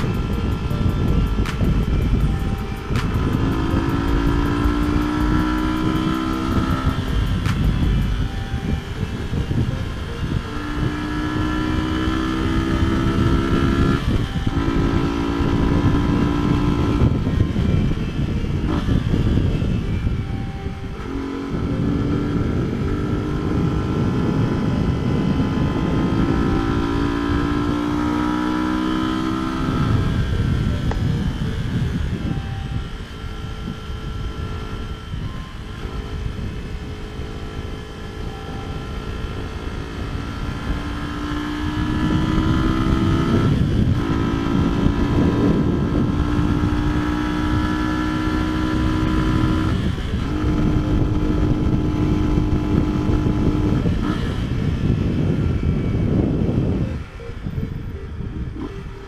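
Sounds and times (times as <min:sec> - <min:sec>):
motorcycle engine changing gears: 0:00.0 - 0:59.0
wind on microphone: 0:00.0 - 0:59.0.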